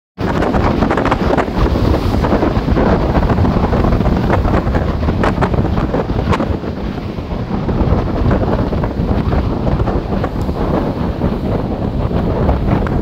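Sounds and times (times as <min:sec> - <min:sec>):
sea rushing: 0:00.2 - 0:13.0
wind buffeting microphone: 0:00.2 - 0:13.0.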